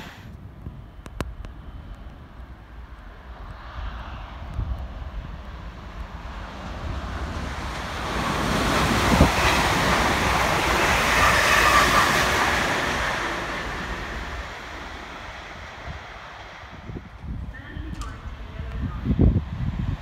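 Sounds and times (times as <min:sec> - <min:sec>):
train wheels rushing on rails: 0:01.1 - 0:20.0.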